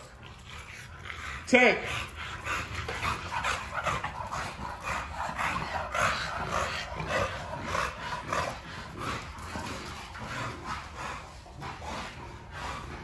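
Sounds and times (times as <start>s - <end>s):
dogs vocalizing while tussling: 0.0s - 13.0s.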